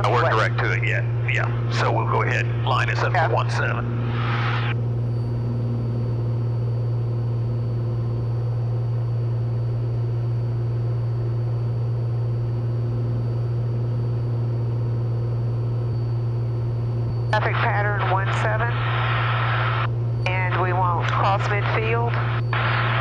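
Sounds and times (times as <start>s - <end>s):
airplane cabin engine drone: 0.0s - 23.0s.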